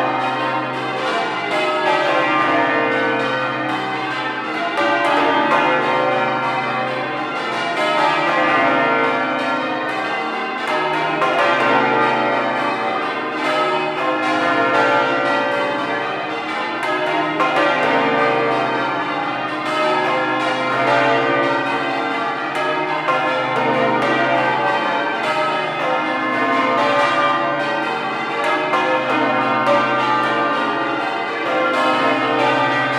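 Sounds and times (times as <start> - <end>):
church bells change ringing: 0.0 - 32.9.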